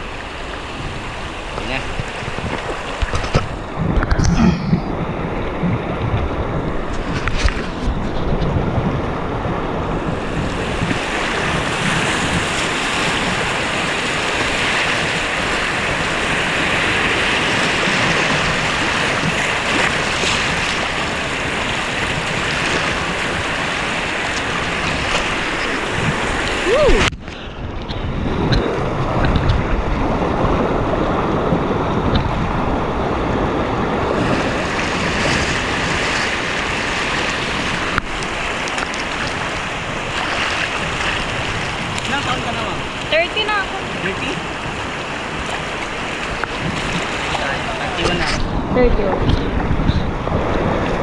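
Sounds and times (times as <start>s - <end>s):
wind buffeting microphone: 0.0s - 51.0s
river rapids splashing: 9.1s - 27.6s, 28.6s - 51.0s.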